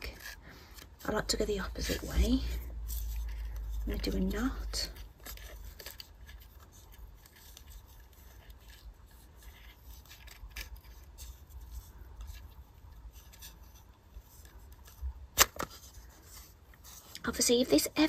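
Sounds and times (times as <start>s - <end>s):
faint rubbing and small clicks: 0.0s - 18.0s.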